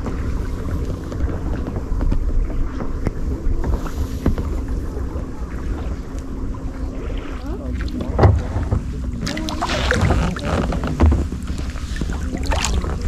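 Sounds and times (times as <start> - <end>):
paddle splashing in water: 0.0 - 13.0
water lapping at hull: 0.0 - 13.0
wind buffeting microphone: 0.0 - 13.0.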